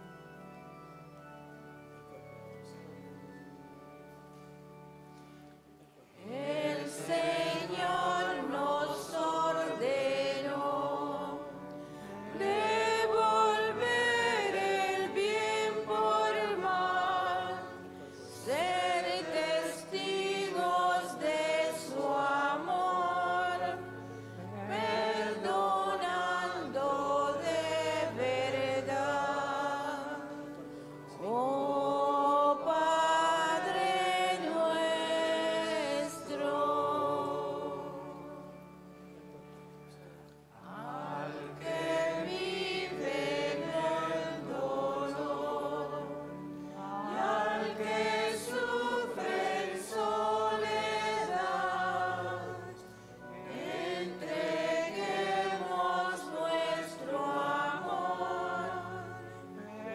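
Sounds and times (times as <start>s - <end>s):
organ accompaniment: 0.0s - 59.9s
church choir singing a hymn: 6.1s - 59.9s.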